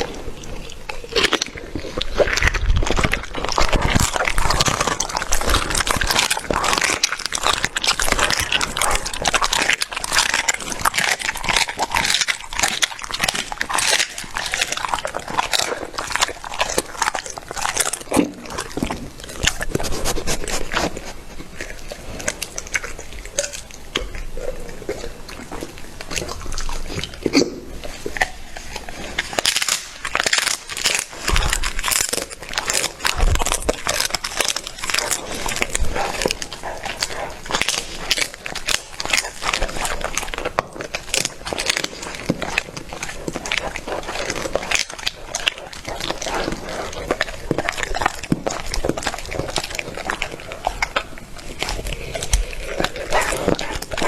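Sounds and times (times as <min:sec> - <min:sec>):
dog chewing and crunching meat: 0:00.0 - 0:54.0.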